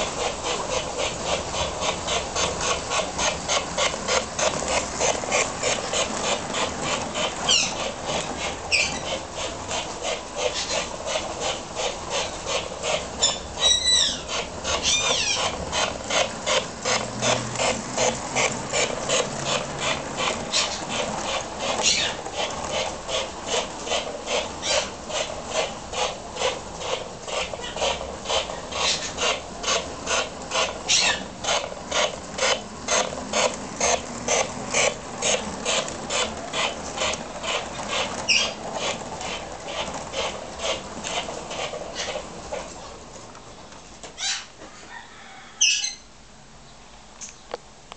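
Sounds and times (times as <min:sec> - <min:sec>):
model steam locomotive chuffing: 0:00.0 - 0:43.7.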